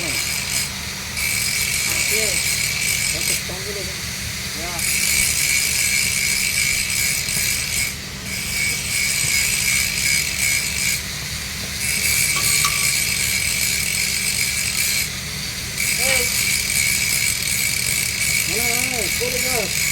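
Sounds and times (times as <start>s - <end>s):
welding arc hissing: 0.0s - 19.9s.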